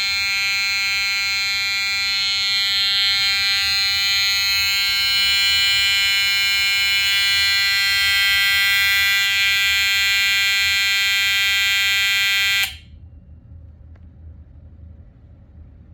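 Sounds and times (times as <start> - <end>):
fire alarm horn steady tone: 0.0 - 12.9.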